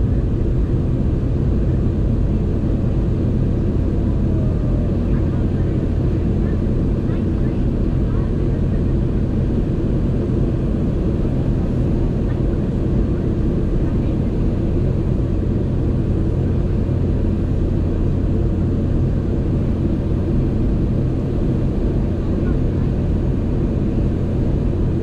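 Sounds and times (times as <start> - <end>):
jet engine drone in cabin: 0.0 - 25.0.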